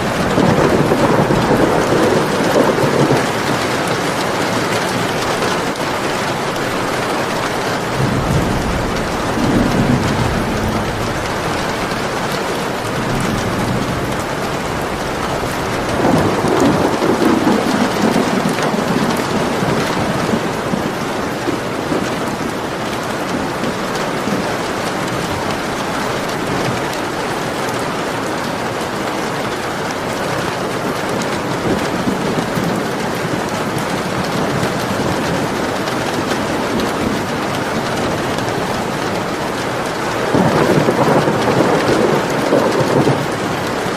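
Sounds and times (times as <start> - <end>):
steady rain falling: 0.0 - 43.9
thunder rumbling: 0.0 - 43.9.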